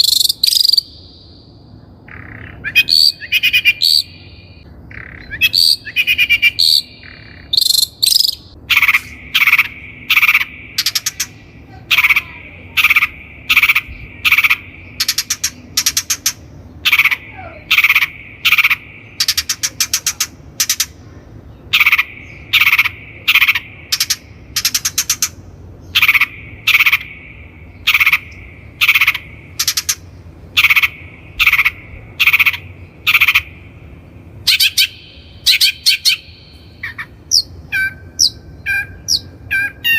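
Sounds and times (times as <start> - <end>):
shrike harsh calls: 0.0 - 39.9.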